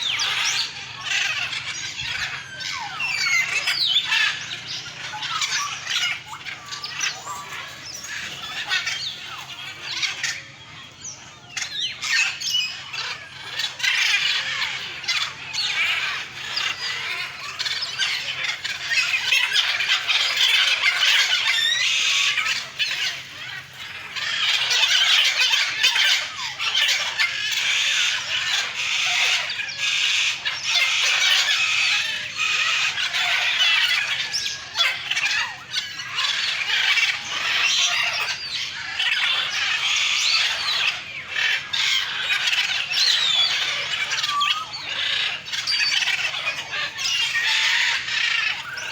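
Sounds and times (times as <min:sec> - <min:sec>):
birds chirping and squawking: 0:00.0 - 0:48.9.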